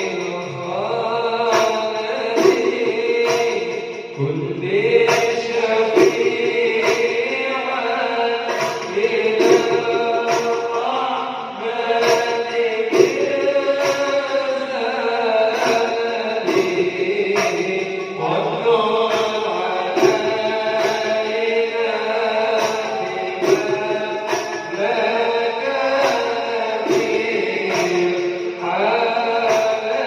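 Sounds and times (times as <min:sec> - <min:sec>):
man singing: 0:00.0 - 0:30.0
percussion beat: 0:00.0 - 0:30.0.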